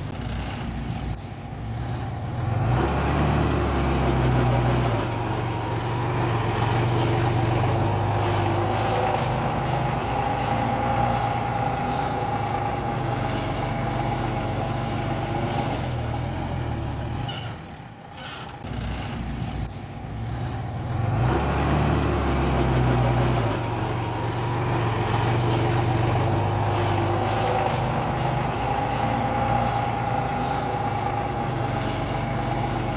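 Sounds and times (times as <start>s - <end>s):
heavy diesel machinery engine: 0.0s - 32.9s.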